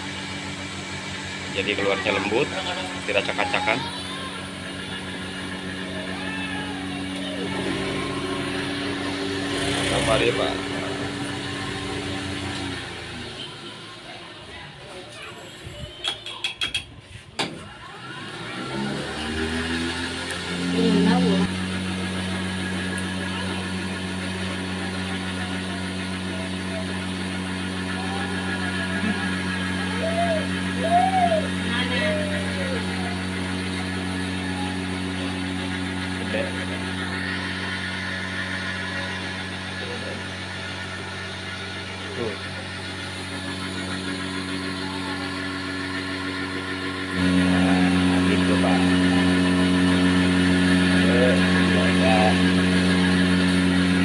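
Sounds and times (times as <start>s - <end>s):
cotton candy machine motor hum: 0.0s - 54.0s.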